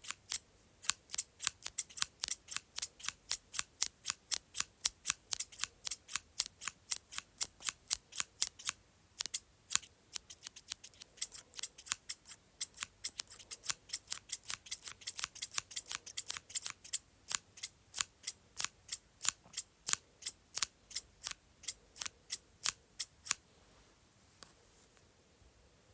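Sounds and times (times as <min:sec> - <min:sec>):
scissors snipping: 0:00.0 - 0:23.4.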